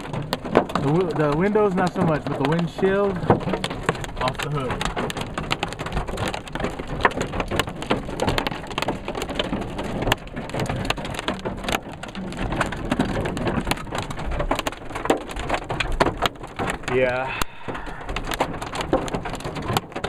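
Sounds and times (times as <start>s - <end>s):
hail pelting a car roof: 0.0s - 20.0s.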